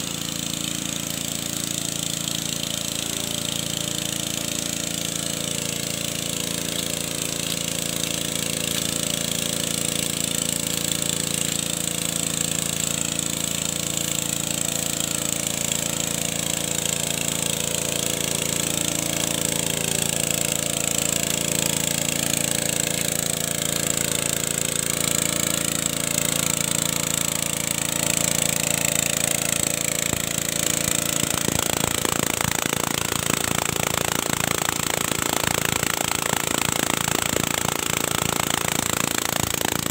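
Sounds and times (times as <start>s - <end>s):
petrol water pump engine running: 0.0s - 39.9s
rapid knocking rattle: 0.0s - 39.9s.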